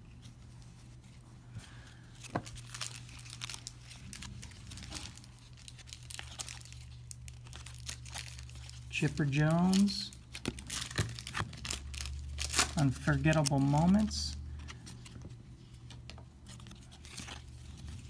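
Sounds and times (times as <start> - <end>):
cards rustling and clicking: 2.1 - 18.0.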